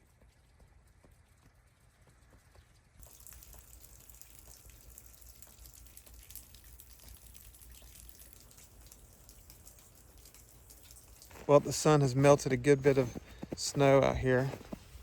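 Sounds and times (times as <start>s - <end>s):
meltwater dripping: 2.0s - 15.0s.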